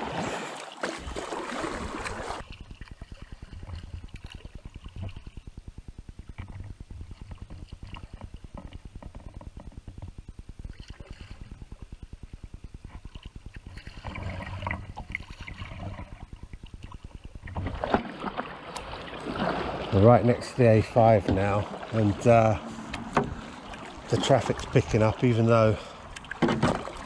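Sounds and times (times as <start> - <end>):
water lapping against kayak hull: 0.0 - 27.0.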